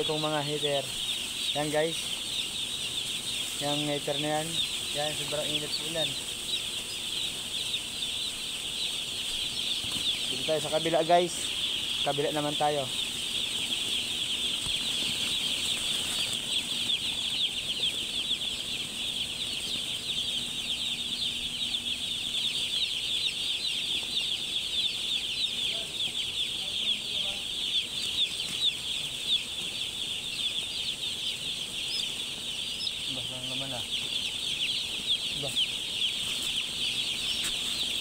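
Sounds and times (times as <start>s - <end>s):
chicks peeping: 0.0s - 38.0s
faint steady hum: 0.0s - 38.0s.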